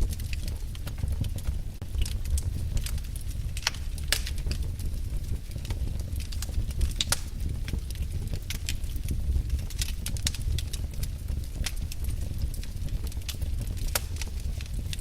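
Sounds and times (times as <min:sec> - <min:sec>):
fire crackling in a fireplace: 0:00.0 - 0:15.0.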